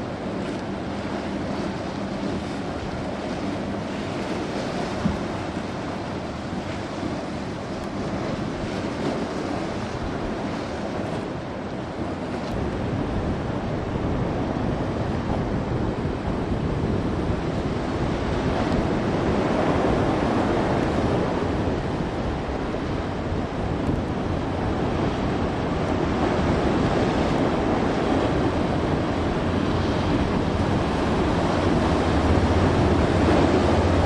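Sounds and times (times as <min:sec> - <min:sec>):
boat engine drone: 0:00.0 - 0:34.0
ocean waves breaking: 0:00.0 - 0:34.0
wind buffeting microphone: 0:00.0 - 0:34.0.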